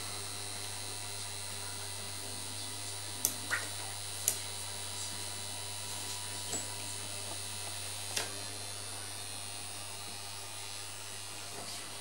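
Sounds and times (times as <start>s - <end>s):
low electric hum: 0.0s - 12.0s.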